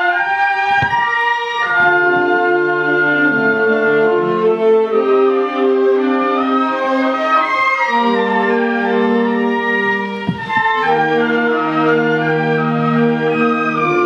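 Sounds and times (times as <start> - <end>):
wind band playing chords: 0.0 - 14.0.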